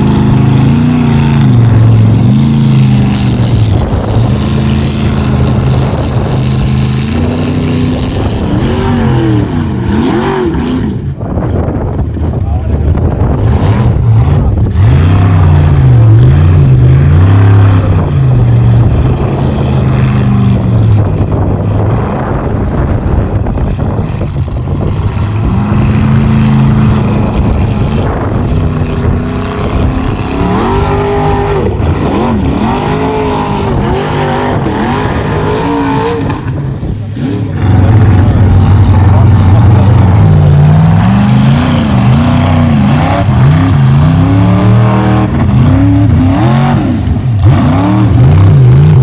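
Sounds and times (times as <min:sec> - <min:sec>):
race truck engine revving: 0:00.0 - 0:49.0.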